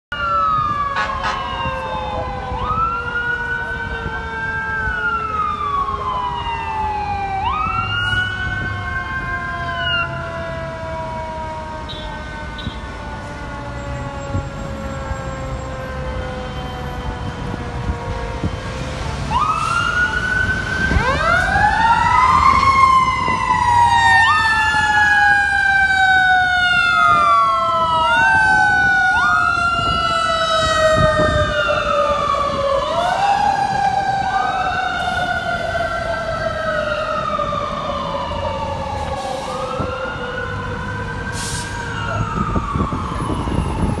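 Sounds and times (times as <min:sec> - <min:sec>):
fire engine siren wailing: 0:00.1 - 0:44.0
low engine and traffic rumble: 0:00.1 - 0:44.0.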